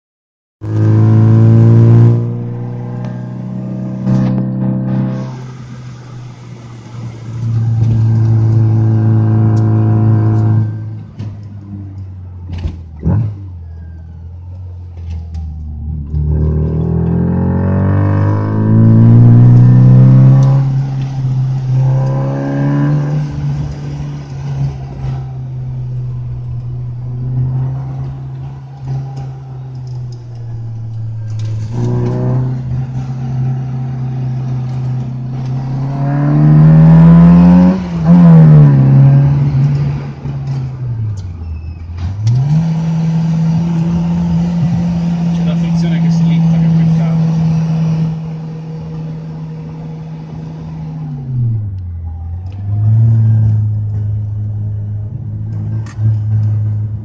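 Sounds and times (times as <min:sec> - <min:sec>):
car engine accelerating: 0:00.6 - 0:57.0.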